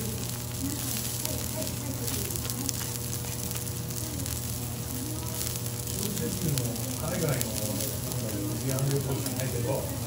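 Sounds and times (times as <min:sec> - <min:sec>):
beef sizzling on a griddle: 0:00.0 - 0:10.0
fat crackling and popping: 0:00.0 - 0:10.0.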